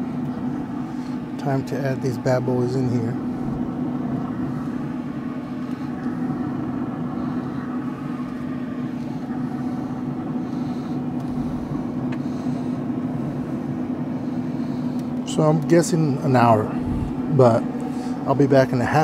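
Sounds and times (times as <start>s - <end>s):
grill fan humming: 0.0s - 19.0s.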